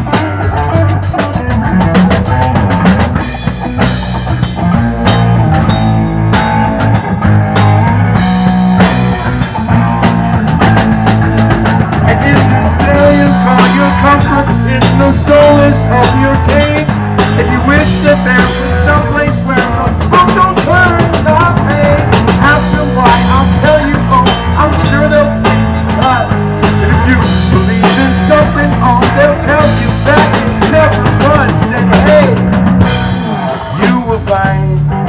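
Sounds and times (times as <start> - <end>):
drum kit: 0.0 - 35.0
electric guitar: 0.0 - 35.0
lead guitar bending notes: 0.0 - 35.0.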